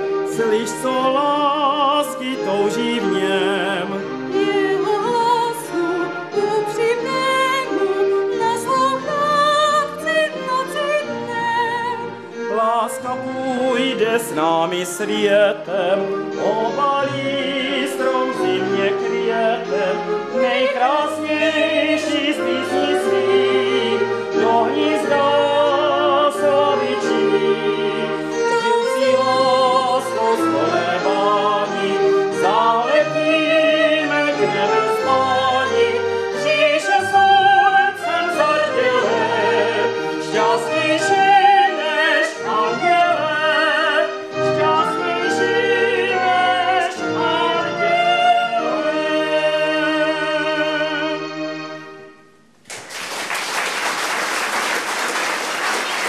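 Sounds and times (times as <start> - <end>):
woman and man singing operatically: 0.2 - 51.3.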